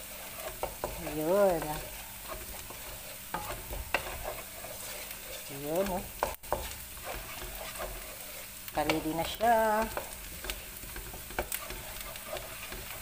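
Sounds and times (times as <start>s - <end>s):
garlic and onion sizzling in oil: 0.0s - 13.0s
wooden spatula scraping pan: 0.0s - 13.0s.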